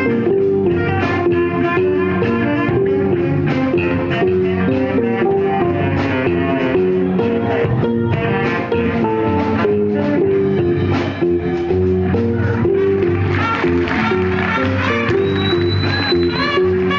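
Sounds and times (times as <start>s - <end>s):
funk jazz band playing: 0.0s - 16.9s.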